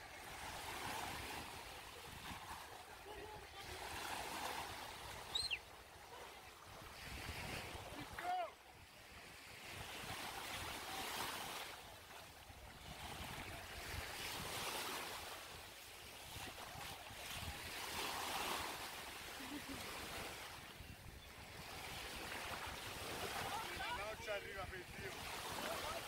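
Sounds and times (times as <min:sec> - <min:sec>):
small waves breaking: 0:00.0 - 0:26.0.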